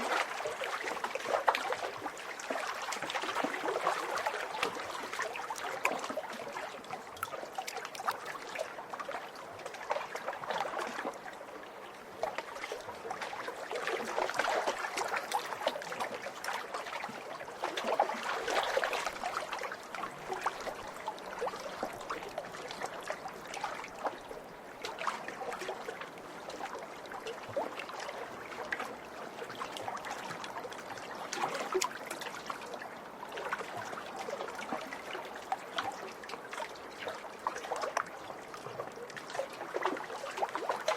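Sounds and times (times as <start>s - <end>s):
lake waves lapping against shore: 0.0s - 40.9s.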